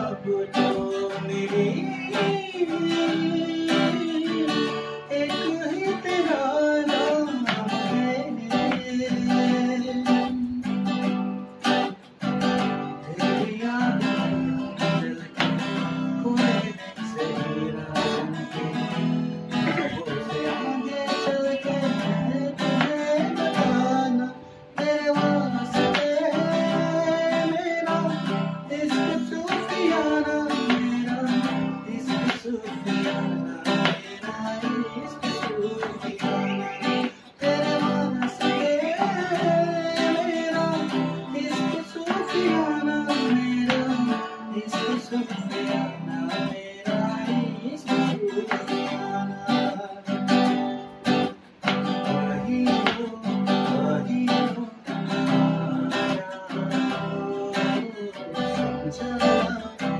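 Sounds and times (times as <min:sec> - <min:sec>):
guitar strumming: 0:00.0 - 0:59.9
man singing: 0:00.0 - 0:59.9.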